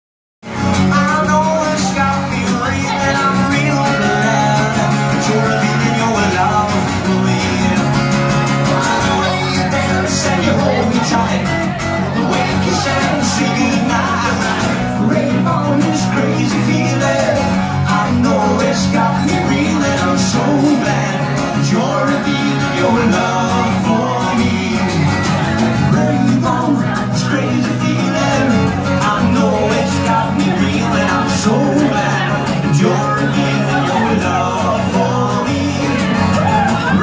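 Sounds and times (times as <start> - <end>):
guitars playing: 0.4 - 37.0
man singing: 0.5 - 37.0.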